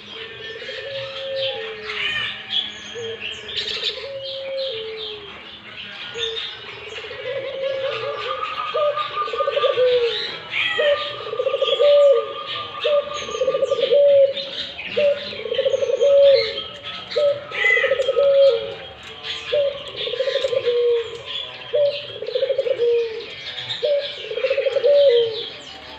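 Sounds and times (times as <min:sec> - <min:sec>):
dove cooing: 0:00.0 - 0:25.9
small birds chirping: 0:00.0 - 0:25.9.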